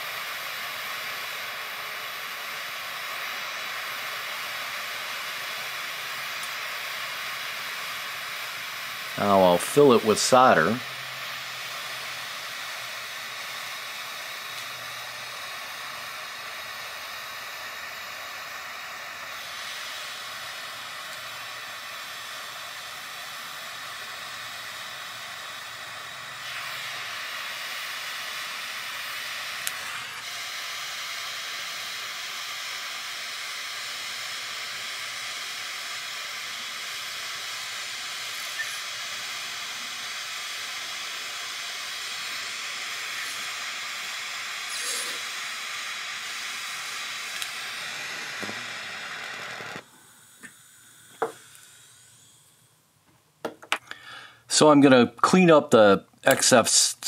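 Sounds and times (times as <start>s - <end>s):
torch flame hissing: 0.0s - 53.0s, 53.8s - 55.0s, 56.3s - 57.0s.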